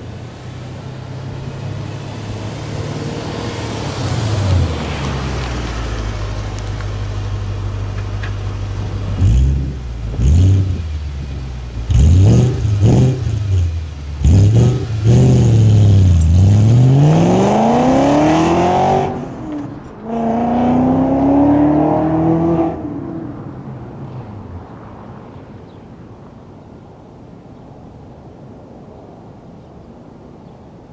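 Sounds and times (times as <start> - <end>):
car engine idling and revving: 0.0 - 25.8.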